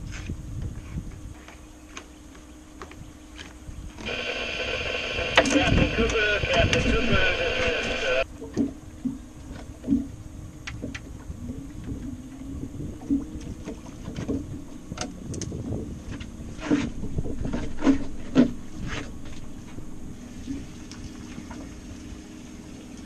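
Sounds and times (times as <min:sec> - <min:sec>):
wind buffeting microphone: 0:00.0 - 0:01.4, 0:02.9 - 0:08.2, 0:08.9 - 0:21.8
small waves slapping boat hull: 0:02.9 - 0:23.0.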